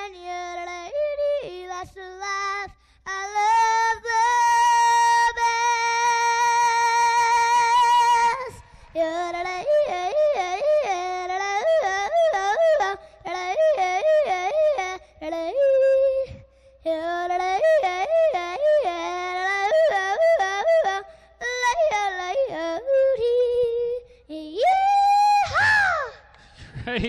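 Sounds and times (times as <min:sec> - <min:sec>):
girl yodeling into a microphone: 0:00.0 - 0:26.3.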